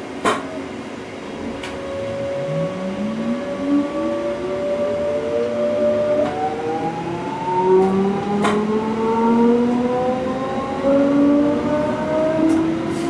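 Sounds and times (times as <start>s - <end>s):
electric train motors whining: 0.0s - 13.0s
train wheels rumbling: 0.0s - 13.0s.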